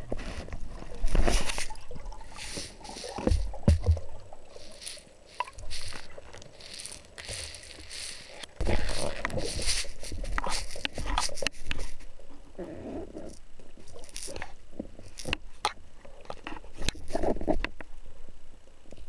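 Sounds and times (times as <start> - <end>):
underwater rustling: 0.0 - 19.0.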